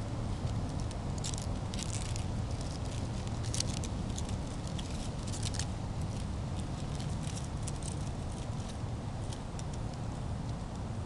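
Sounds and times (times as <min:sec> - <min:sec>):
dry leaves rustling and crackling: 0:00.0 - 0:09.8
steady low rumble: 0:00.0 - 0:11.0.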